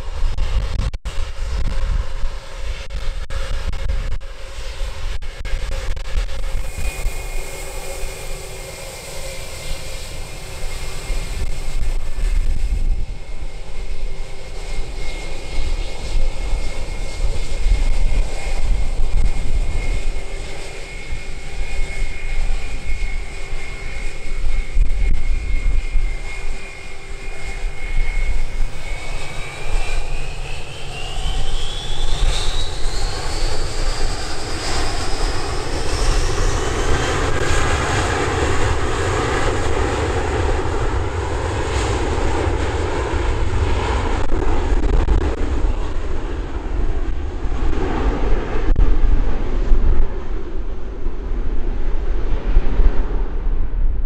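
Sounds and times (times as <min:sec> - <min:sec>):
jet engines whining: 0:00.0 - 0:53.6
wind rumble on microphone: 0:00.0 - 0:54.0.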